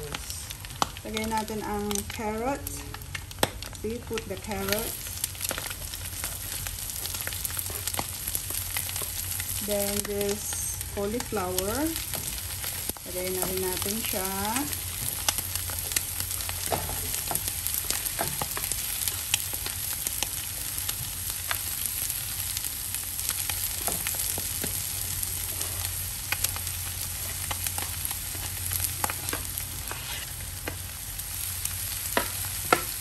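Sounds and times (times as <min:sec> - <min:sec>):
oil sizzling in wok: 0:00.0 - 0:33.0
sharp crackles and clicks: 0:00.0 - 0:33.0.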